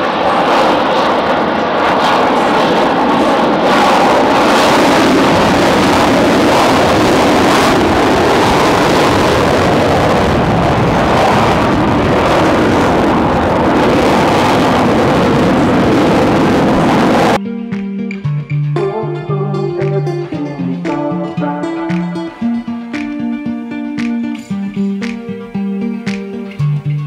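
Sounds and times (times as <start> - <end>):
aircraft engine roar: 0.0 - 27.0.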